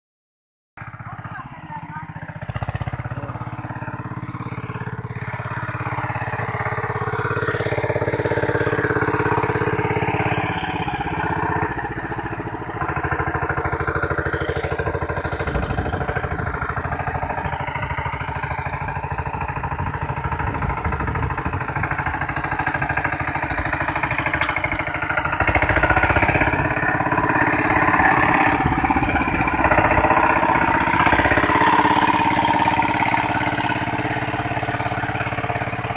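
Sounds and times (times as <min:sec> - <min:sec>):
diesel tiller engine running: 0:00.8 - 0:35.9
rotary tiller churning soil: 0:01.0 - 0:35.9.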